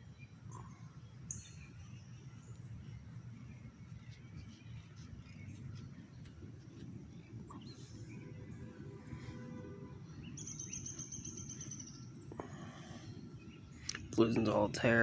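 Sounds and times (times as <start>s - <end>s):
faint bird chirps: 0.0s - 14.5s.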